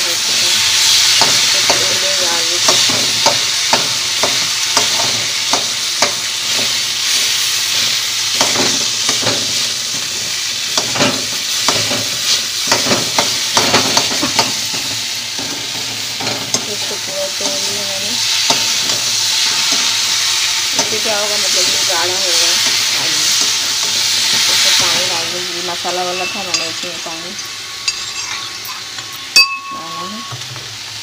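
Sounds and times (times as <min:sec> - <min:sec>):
food sizzling in hot oil: 0:00.0 - 0:31.0
spatula clacking and scraping pan: 0:00.7 - 0:25.1, 0:25.9 - 0:29.6.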